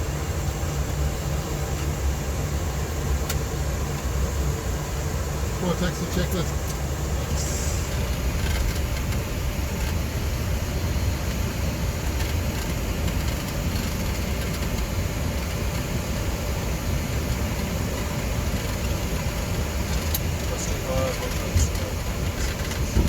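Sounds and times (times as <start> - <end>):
jet engines idling: 0.0 - 23.0.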